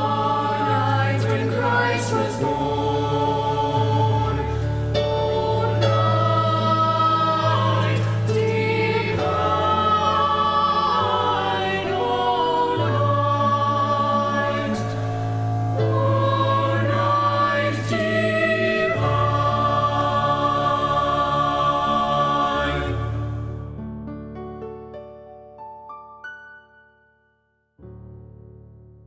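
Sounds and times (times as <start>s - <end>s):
choir singing a carol: 0.0s - 23.7s.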